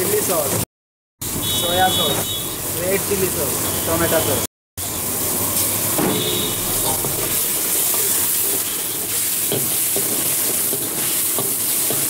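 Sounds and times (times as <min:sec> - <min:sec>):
food sizzling in hot oil: 0:00.0 - 0:00.6, 0:01.2 - 0:12.0.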